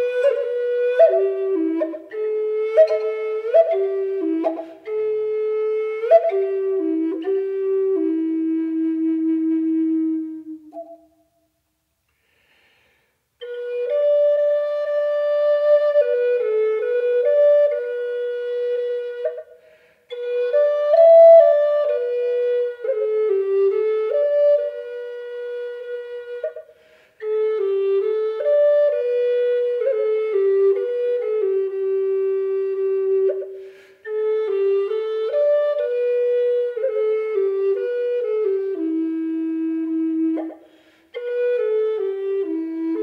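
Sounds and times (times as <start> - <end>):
slow solo flute melody: 0.0 - 12.5, 13.3 - 43.0.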